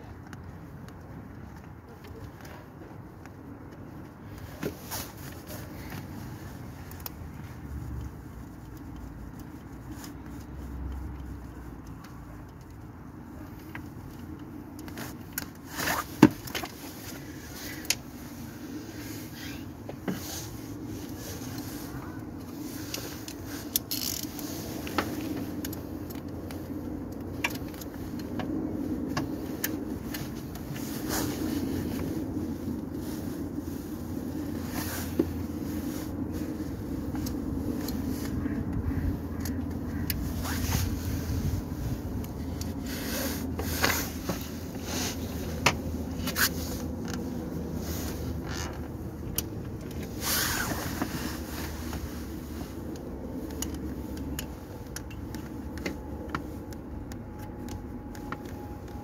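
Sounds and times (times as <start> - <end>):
hands and tools scraping: 3.7 - 59.0.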